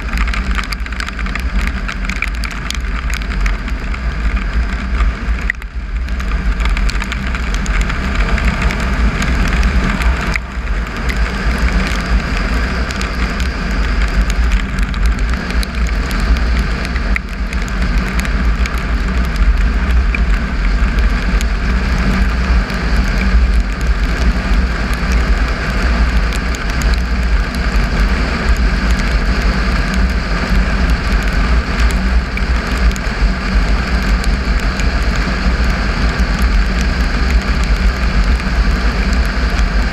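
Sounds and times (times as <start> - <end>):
motorcycle engine: 0.0 - 39.8
tyres on loose gravel: 0.0 - 39.9
wind buffeting microphone: 0.0 - 39.9.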